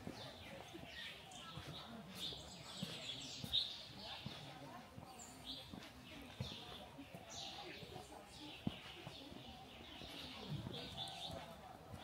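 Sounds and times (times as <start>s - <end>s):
faint murmur of voices: 0.0s - 12.0s
small birds chirping: 0.0s - 12.0s.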